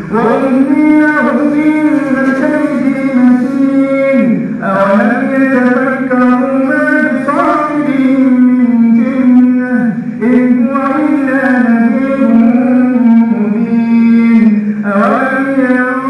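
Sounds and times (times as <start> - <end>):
man chanting recitation: 0.0 - 16.0.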